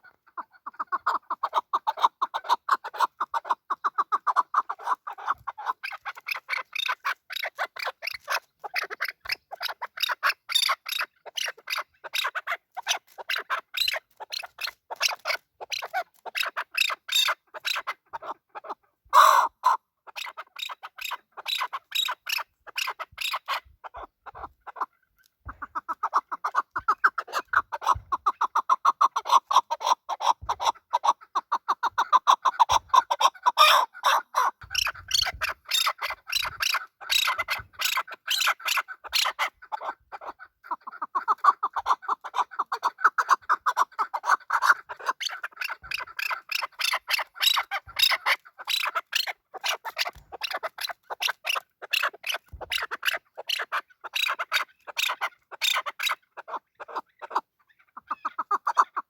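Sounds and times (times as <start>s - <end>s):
partridge calling: 0.0s - 59.0s.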